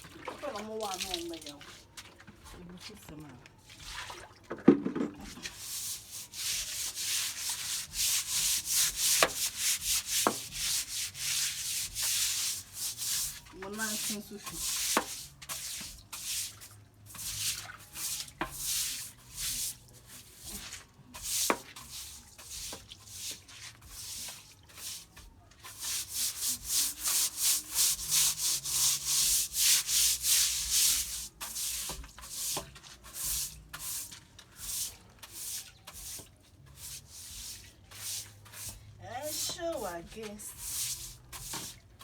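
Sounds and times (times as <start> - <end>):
scrubbing strokes: 0.0 - 42.0.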